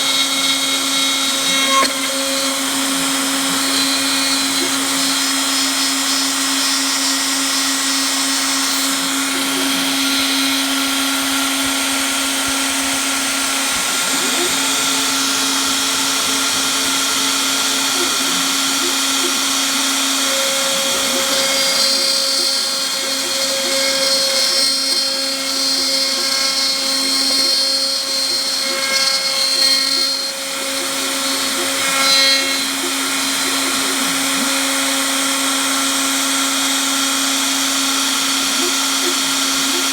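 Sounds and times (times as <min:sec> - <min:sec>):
higher whining tones: 0:00.0 - 0:39.9
router motor whine: 0:00.0 - 0:39.9.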